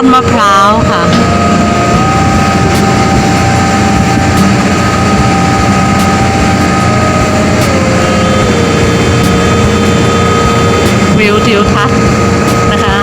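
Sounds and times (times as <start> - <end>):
ferry engines droning: 0.0 - 13.0.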